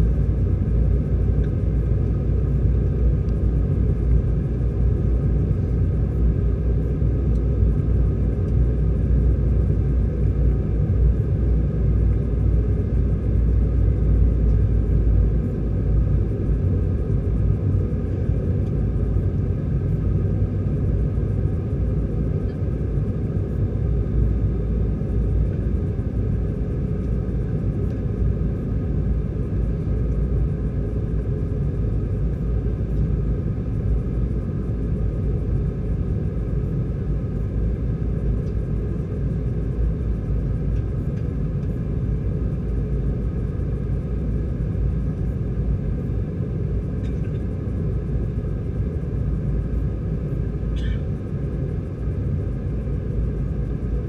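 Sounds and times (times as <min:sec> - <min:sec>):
airplane cabin low rumble: 0:00.0 - 0:54.0
faint steady whine: 0:00.0 - 0:54.0.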